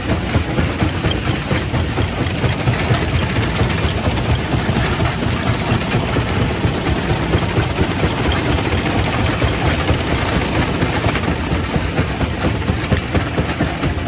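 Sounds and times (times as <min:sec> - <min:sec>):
rock crusher rumbling: 0:00.0 - 0:14.0.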